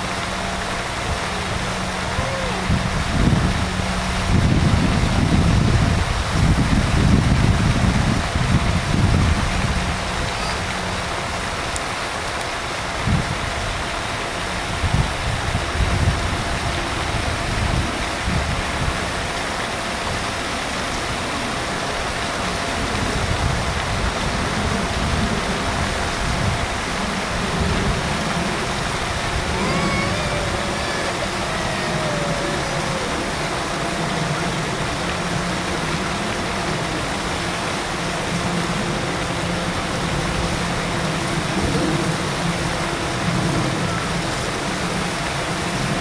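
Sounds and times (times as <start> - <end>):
rushing background noise: 0.0 - 46.0.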